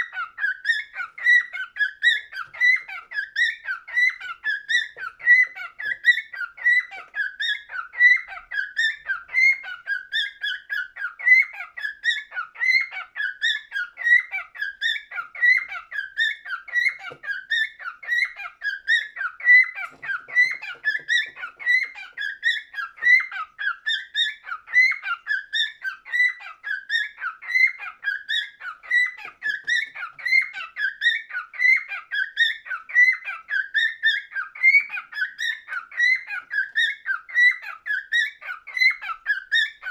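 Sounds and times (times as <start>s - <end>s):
cockatiel whistling: 0.0s - 39.9s.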